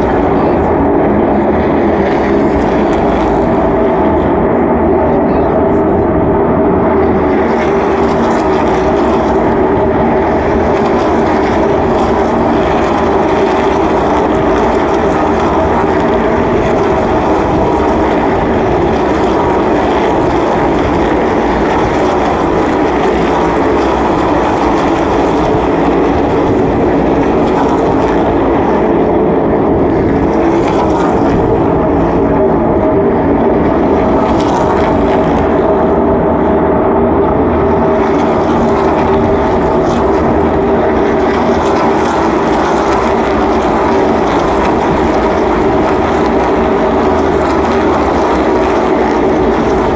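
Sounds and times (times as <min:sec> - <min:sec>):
race car engines droning: 0:00.0 - 0:49.9.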